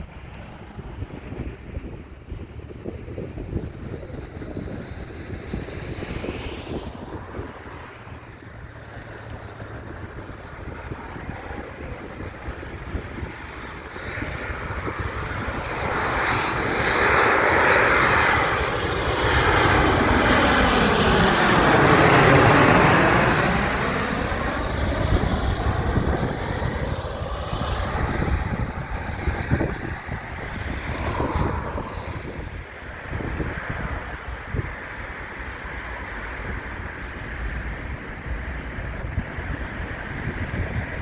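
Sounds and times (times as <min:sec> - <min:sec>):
airliner passing close by: 0:00.0 - 0:41.0.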